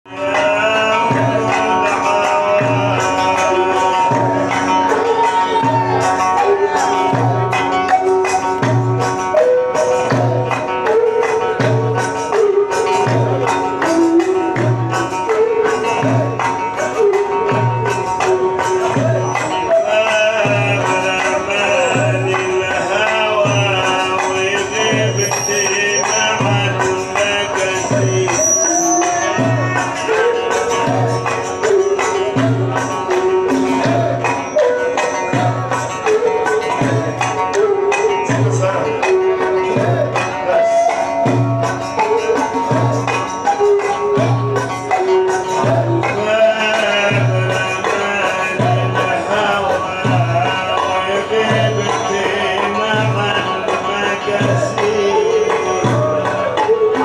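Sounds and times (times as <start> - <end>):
wavering melody line: 0.1 - 57.0.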